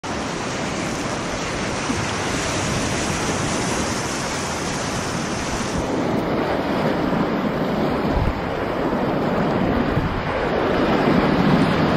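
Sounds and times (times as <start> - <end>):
whitewater rapids rushing: 0.0 - 11.9
wind on microphone: 0.1 - 11.9.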